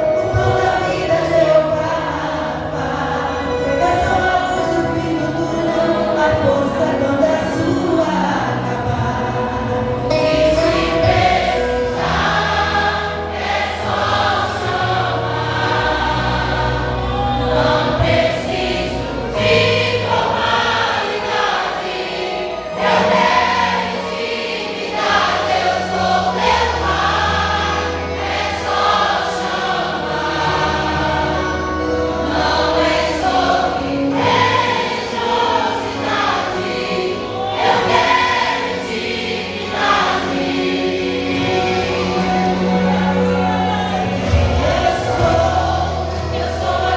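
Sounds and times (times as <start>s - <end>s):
vocal group singing in harmony: 0.0s - 46.9s.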